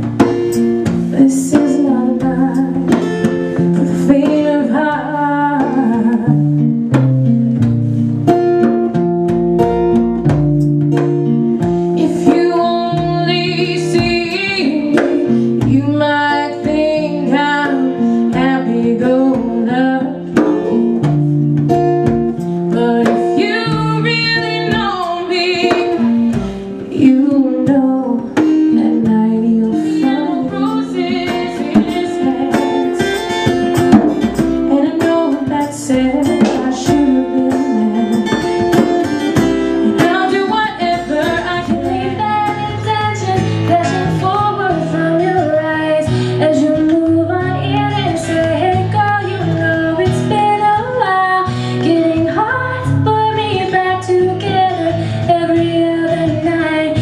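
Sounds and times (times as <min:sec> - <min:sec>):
woman singing: 0:00.0 - 0:07.0, 0:11.6 - 0:57.0
hand drum and cymbal percussion: 0:00.0 - 0:57.0
strummed acoustic guitar: 0:00.0 - 0:57.0.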